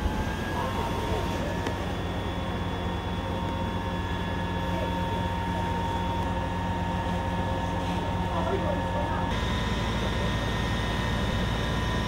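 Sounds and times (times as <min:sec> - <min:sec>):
pump engine humming with whine: 0:00.0 - 0:12.0.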